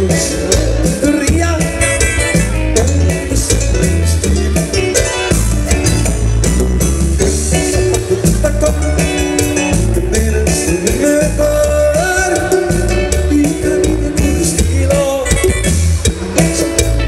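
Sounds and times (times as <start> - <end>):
electric guitar: 0.0 - 17.0
live latin dance band: 0.0 - 17.0.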